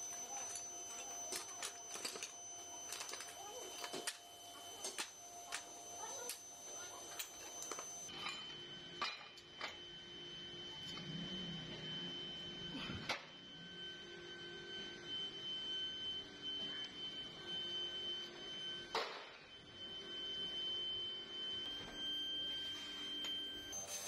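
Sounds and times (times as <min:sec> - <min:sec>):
steady high-pitched whine: 0:00.0 - 0:24.0.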